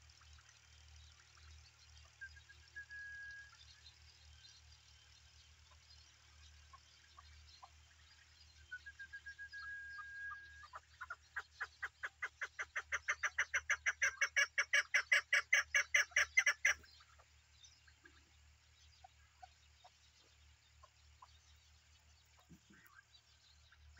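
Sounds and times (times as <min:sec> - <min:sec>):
partridge chuck calls: 0:03.5 - 0:23.9.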